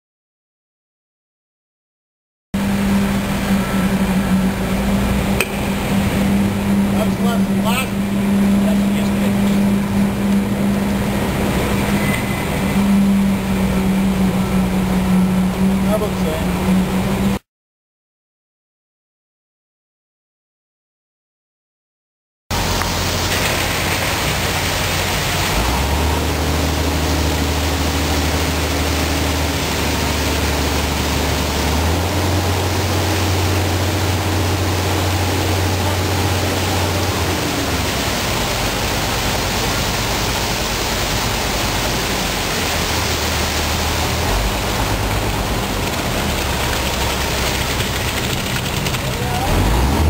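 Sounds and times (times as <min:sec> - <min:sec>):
concrete mixer engine hum: 0:02.6 - 0:17.4, 0:22.5 - 0:50.0.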